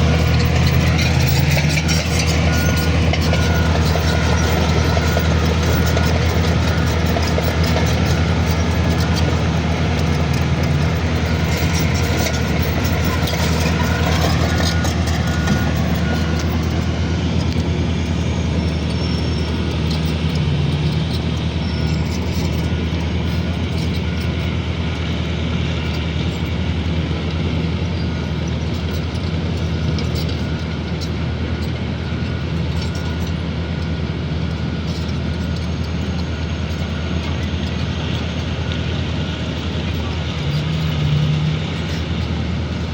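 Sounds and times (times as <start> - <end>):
diesel machine engine hum: 0.0 - 42.9
high whine bending in pitch: 0.0 - 42.9.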